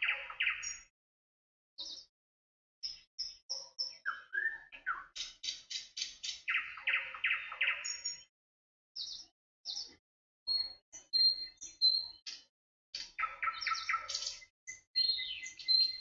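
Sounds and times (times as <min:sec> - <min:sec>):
small bird chirping: 0:00.0 - 0:00.9, 0:01.8 - 0:02.1, 0:02.8 - 0:08.3, 0:09.0 - 0:16.0.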